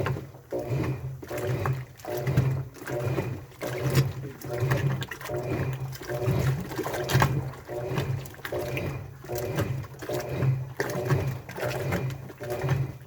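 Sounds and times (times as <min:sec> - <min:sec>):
washing machine drum turning: 0:00.0 - 0:13.0
washing machine motor hum: 0:00.0 - 0:13.0
water sloshing: 0:00.0 - 0:13.0.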